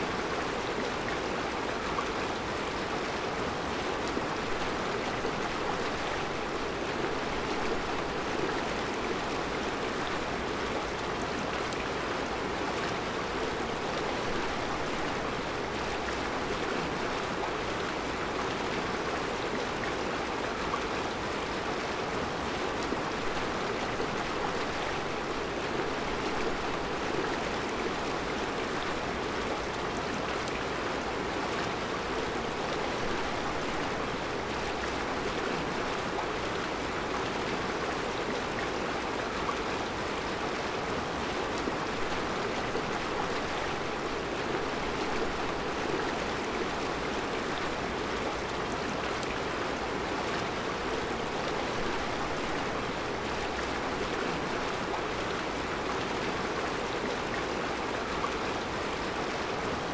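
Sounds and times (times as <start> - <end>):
river flowing over rocks: 0.0 - 59.9.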